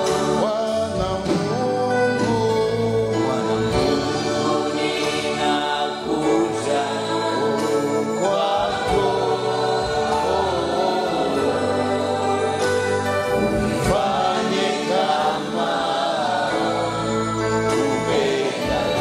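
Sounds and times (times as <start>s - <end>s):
choir singing gospel: 0.0s - 19.0s
sustained accompaniment: 0.0s - 19.0s.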